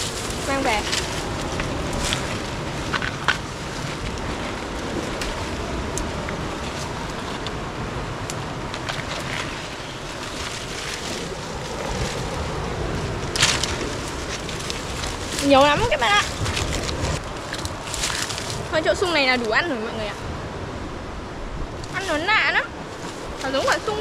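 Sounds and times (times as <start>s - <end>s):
foliage rustling and snapping: 0.0s - 20.0s, 22.9s - 24.0s
wind noise on microphone: 0.0s - 24.0s.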